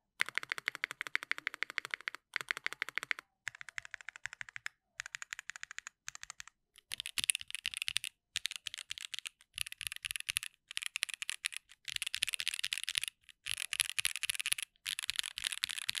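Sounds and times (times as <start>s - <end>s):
typing on a mechanical keyboard: 0.2s - 16.0s.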